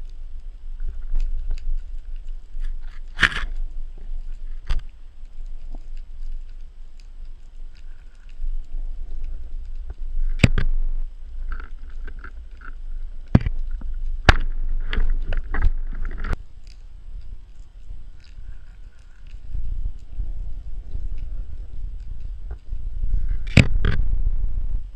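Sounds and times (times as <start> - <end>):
underwater rumble of moving water: 0.0 - 24.9.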